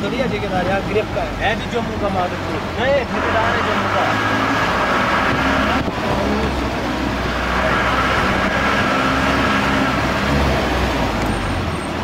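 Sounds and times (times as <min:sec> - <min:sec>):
tyres on dirt road: 0:00.0 - 0:12.0
vehicle engine hum: 0:00.0 - 0:12.0.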